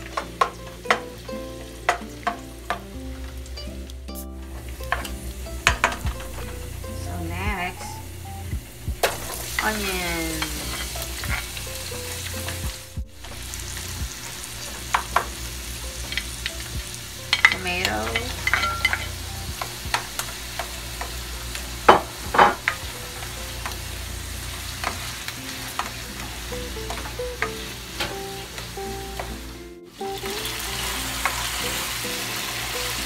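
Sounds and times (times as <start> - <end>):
vegetables sizzling in oil: 0.0 - 33.0.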